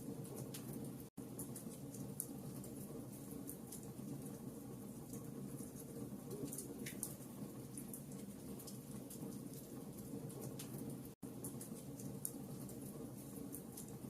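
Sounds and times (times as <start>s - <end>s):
fire snaps and crackles: 0.0s - 14.0s.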